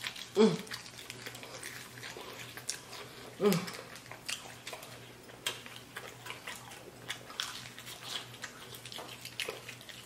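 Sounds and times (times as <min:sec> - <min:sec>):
wet chewing and mouth smacks: 0:00.0 - 0:10.0.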